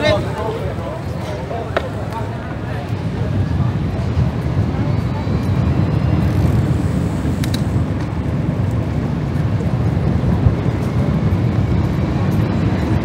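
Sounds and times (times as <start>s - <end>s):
low street ambience rumble: 0.0s - 13.0s.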